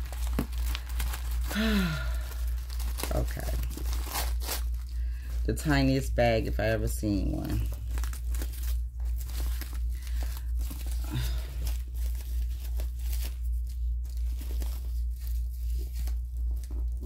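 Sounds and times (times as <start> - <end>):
paper and plastic crinkling: 0.0 - 17.0
steady low hum: 0.0 - 17.0.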